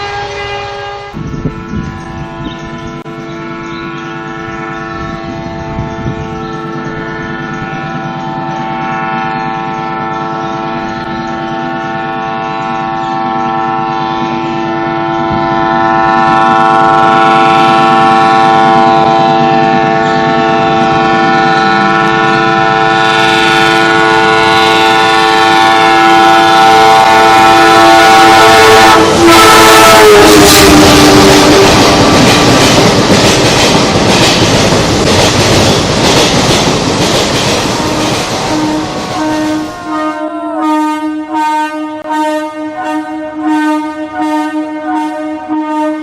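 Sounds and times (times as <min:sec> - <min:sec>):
locomotive horn blast: 0:00.0 - 0:33.0, 0:37.5 - 0:46.0
moving train noise: 0:00.0 - 0:46.0.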